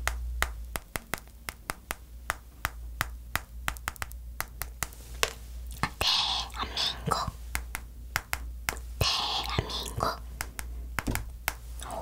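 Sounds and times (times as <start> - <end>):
fingertips tapping hard sugar shell: 0.0 - 12.0.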